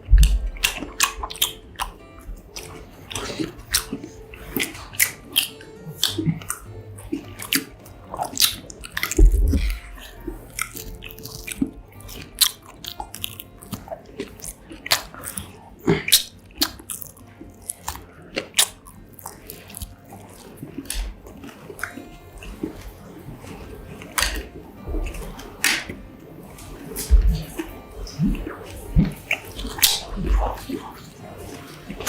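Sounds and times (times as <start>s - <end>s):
crunchy bites and chewing: 0.0s - 26.0s.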